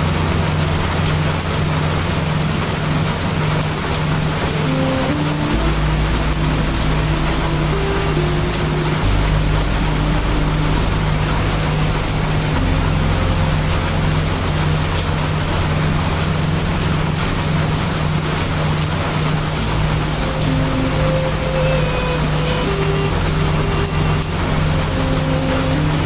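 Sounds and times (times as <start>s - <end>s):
heavy rain hiss: 0.0s - 26.0s
low continuous rumble: 0.0s - 26.0s.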